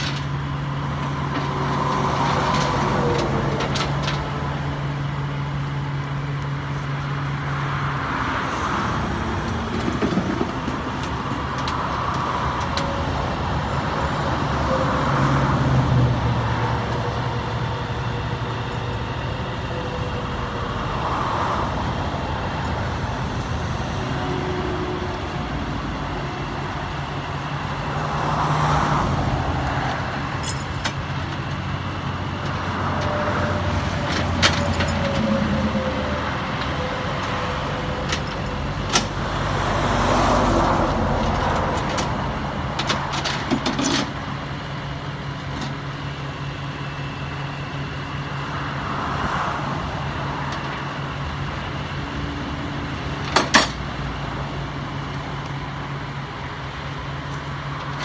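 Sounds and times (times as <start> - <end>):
truck engine running: 0.0 - 49.0
passing highway traffic: 0.0 - 58.0.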